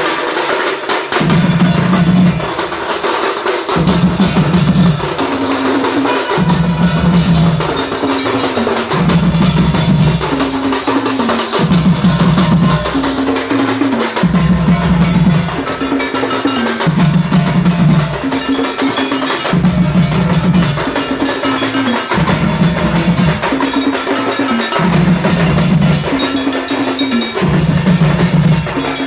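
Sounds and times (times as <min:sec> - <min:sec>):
barrel drums beaten with sticks: 0:00.0 - 0:29.0
hand cymbals clashing: 0:00.0 - 0:29.0.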